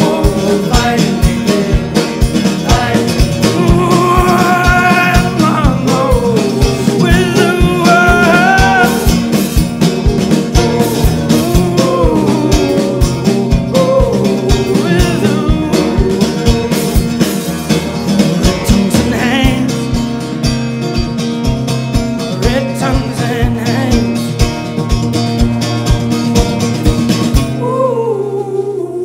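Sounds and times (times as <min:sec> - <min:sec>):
drum kit beat: 0:00.0 - 0:27.6
strummed acoustic guitar: 0:00.0 - 0:28.4.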